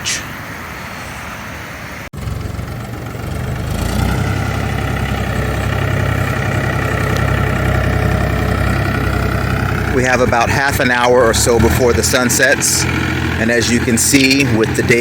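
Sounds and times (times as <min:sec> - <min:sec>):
engine running: 0:02.2 - 0:15.0.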